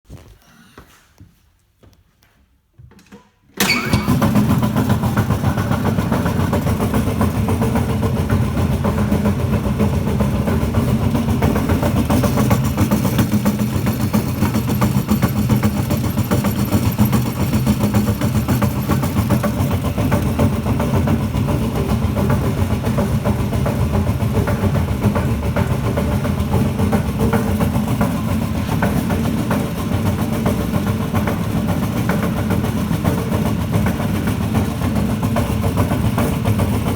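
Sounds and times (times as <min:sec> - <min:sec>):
compressor running with rapid pulsing: 0:03.6 - 0:36.9.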